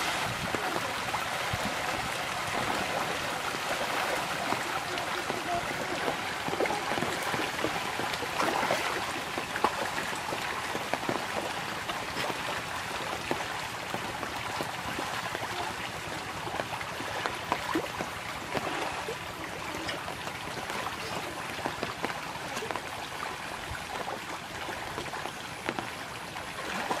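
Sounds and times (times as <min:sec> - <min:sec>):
fish thrashing and splashing water: 0:00.0 - 0:27.0.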